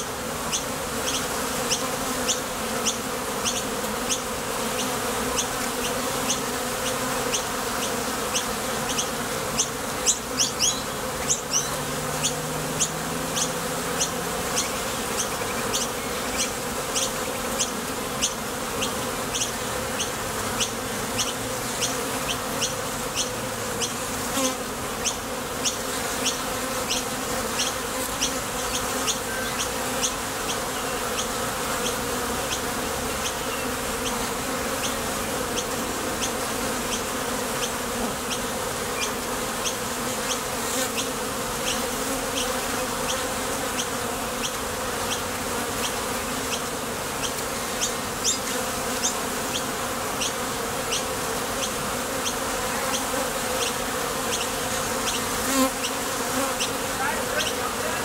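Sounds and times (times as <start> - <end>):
honeybees buzzing: 0.0 - 58.0.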